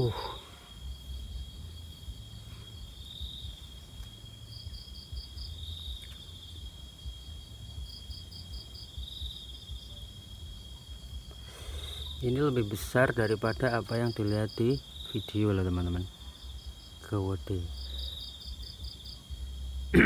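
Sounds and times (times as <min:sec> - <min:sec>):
insects trilling: 0:00.0 - 0:20.0
quick insect chirps: 0:00.0 - 0:20.0.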